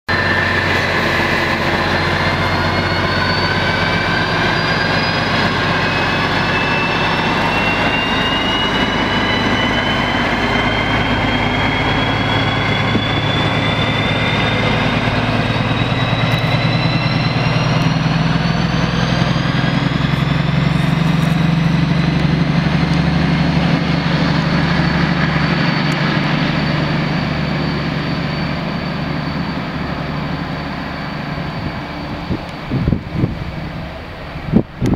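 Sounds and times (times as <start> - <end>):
diesel locomotive engine whining: 0.1 - 34.9.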